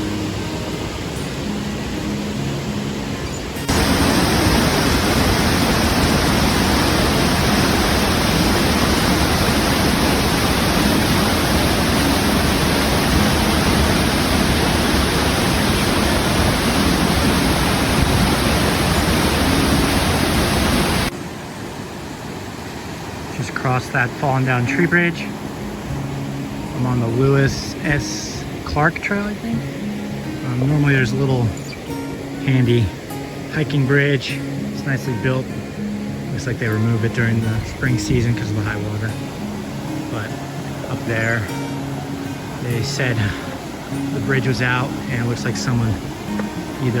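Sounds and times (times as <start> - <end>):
rushing creek water: 0.0 - 47.0.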